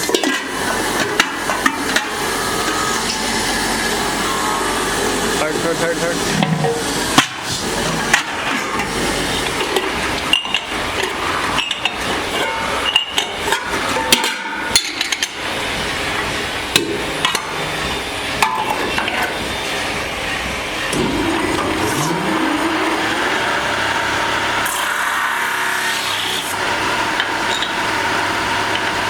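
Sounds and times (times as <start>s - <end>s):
workshop noise: 0.0s - 29.0s.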